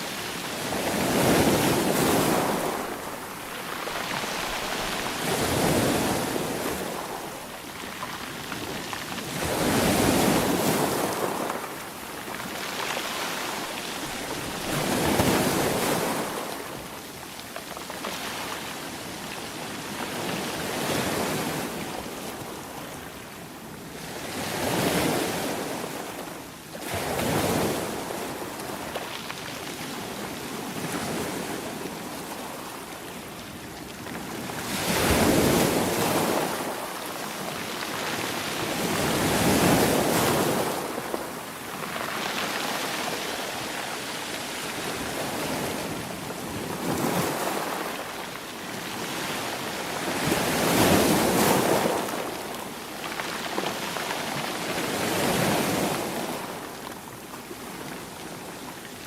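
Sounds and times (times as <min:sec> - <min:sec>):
sea waves breaking on shore: 0:00.0 - 0:23.2, 0:23.9 - 0:59.0.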